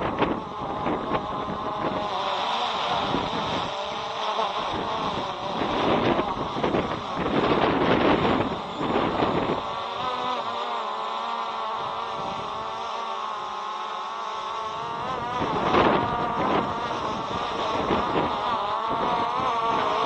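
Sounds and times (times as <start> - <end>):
quadcopter propellers humming: 0.0 - 20.0
wind buffeting microphone: 0.0 - 20.0.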